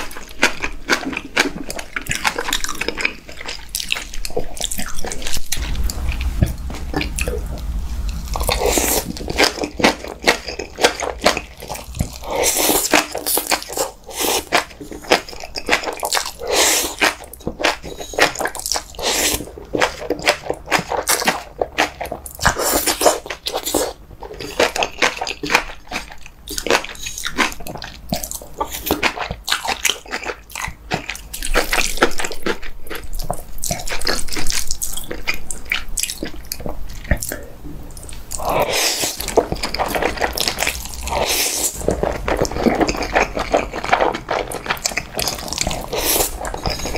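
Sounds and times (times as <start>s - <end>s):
slurping and chewing noodles: 0.0s - 46.9s.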